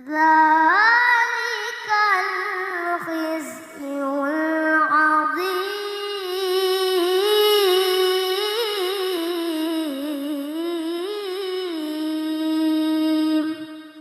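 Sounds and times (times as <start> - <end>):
child reciting in melodic style: 0.0 - 14.0.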